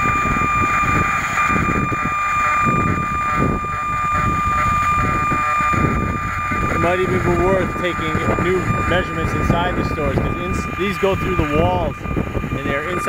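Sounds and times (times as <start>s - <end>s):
high-pitched electronic whine: 0.0s - 13.0s
low rumbling and buffeting: 0.0s - 13.0s.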